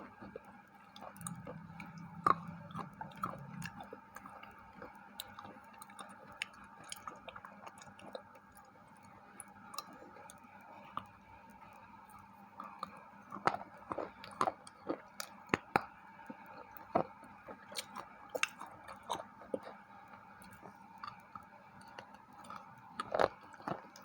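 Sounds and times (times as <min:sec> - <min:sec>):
chewing wafer bar crunching: 0:00.0 - 0:11.2, 0:12.1 - 0:24.0.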